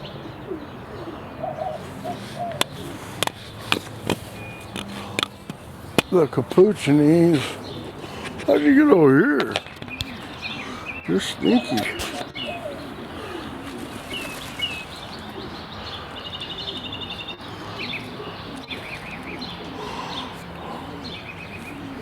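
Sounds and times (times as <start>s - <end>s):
pigeons cooing: 0.0s - 22.0s
small birds chirping: 0.0s - 22.0s.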